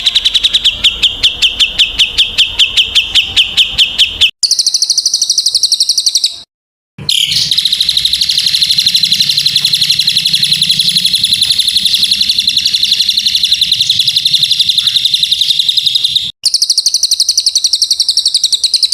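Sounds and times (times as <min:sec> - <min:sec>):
songbird trilling high chirps: 0:00.0 - 0:18.9.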